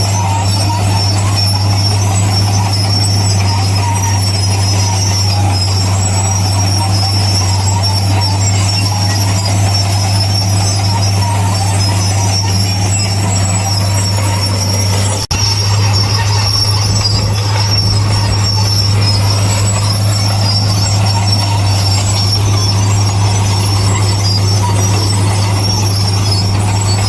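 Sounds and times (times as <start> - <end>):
bulldozer diesel engine drone: 0.0 - 27.0
steel tracks squealing and clanking: 0.0 - 27.0.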